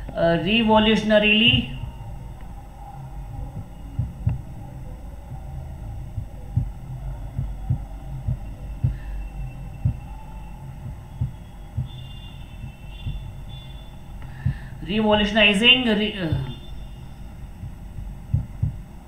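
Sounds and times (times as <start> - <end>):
dull low thumps: 0.0 - 15.3, 16.2 - 19.0
steady low hum: 0.0 - 19.0.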